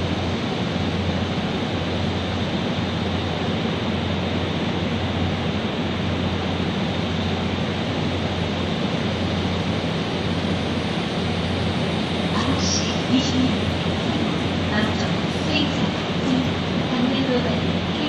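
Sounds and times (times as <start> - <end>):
low hum: 0.0 - 18.0
train rumble and hiss: 0.0 - 18.0.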